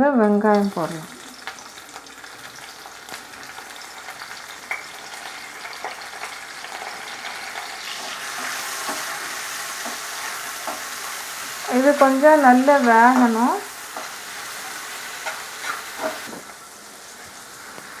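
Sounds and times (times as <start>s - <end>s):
onions sizzling in oil: 0.2s - 18.0s.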